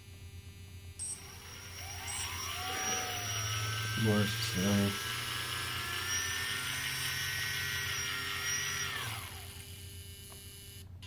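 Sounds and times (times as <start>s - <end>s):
low electrical hum: 0.0s - 11.0s
drone motors whining: 1.0s - 10.9s.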